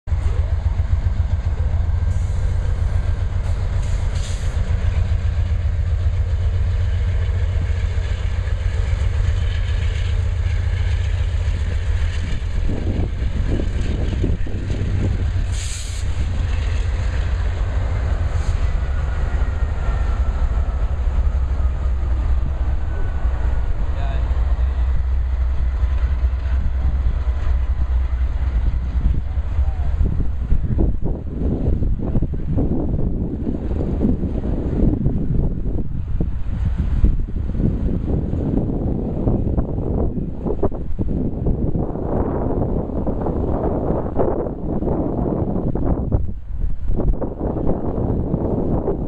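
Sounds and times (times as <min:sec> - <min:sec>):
freight train rumbling on rails: 0:00.0 - 0:49.0
train clatter: 0:00.1 - 0:49.0.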